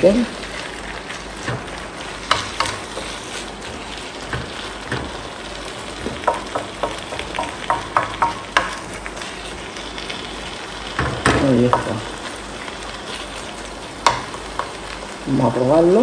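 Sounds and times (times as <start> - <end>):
food sizzling in a frying pan: 0.0 - 16.0
wooden spoon scraping a pan: 0.4 - 15.1.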